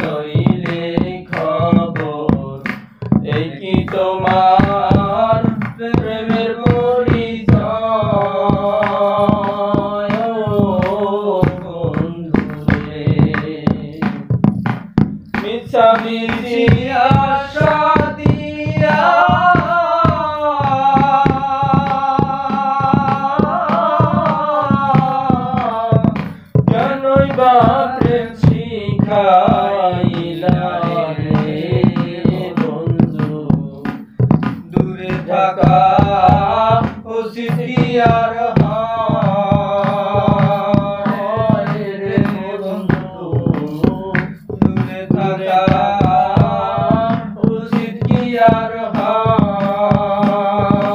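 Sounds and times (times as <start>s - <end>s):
men singing folk song: 0.0s - 50.9s
percussion beat: 0.0s - 50.9s.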